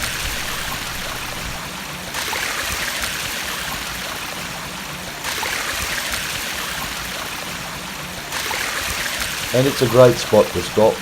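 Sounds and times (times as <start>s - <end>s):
water rushing over dam: 0.0s - 11.0s.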